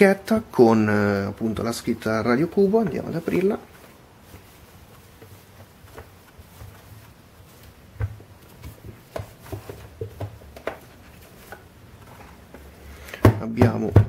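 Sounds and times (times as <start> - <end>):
fabric and wrap rustling: 0.0 - 13.1.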